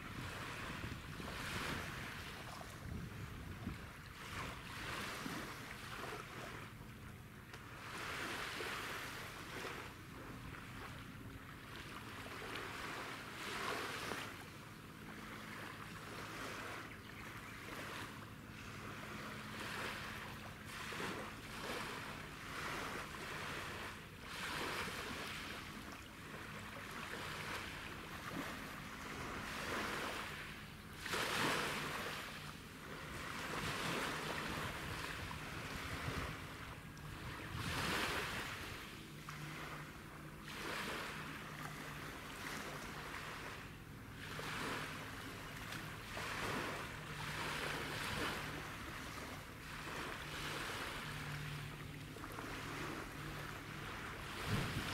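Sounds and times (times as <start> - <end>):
low engine hum: 0.0 - 54.9
small waves lapping: 0.0 - 54.9.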